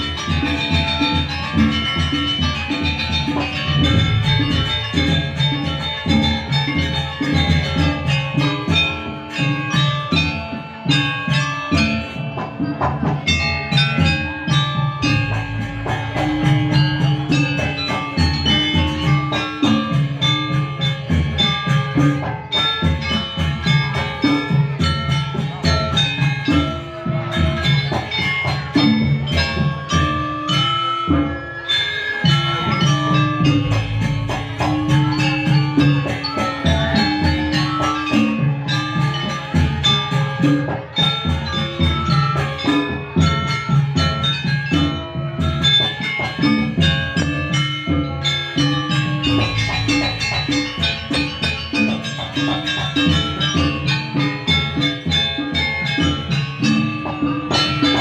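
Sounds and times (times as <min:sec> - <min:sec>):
gamelan metallophones ringing: 0:00.0 - 0:58.0.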